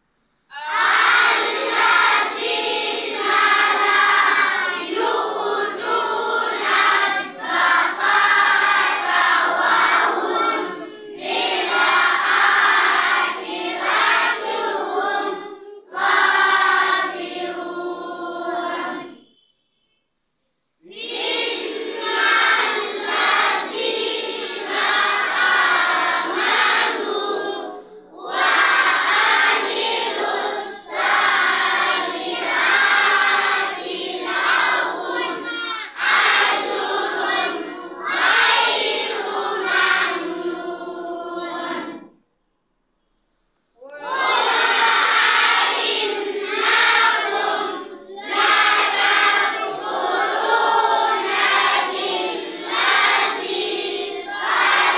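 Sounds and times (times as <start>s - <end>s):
children chanting together: 0.5s - 19.5s, 20.8s - 42.2s, 43.8s - 54.9s.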